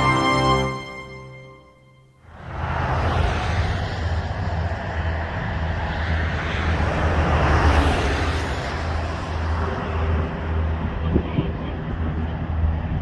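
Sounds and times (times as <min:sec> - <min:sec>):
jet engines rushing: 0:02.2 - 0:13.0.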